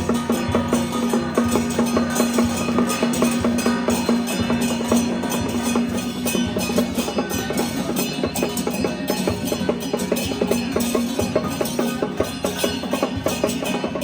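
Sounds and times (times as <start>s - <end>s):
drums and wood-block percussion: 0.0s - 14.0s.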